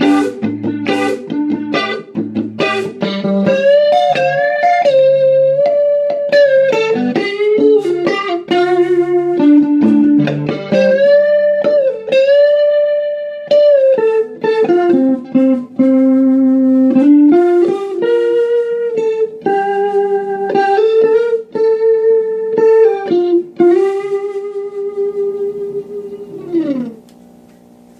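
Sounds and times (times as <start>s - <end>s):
electric guitar lead line: 0.0s - 27.9s.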